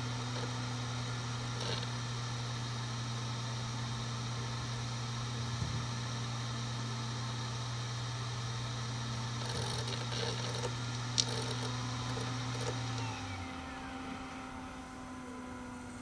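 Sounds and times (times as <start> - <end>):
hard drive spindle hum: 0.0 - 16.0
hard drive spinning down whine: 0.0 - 16.0.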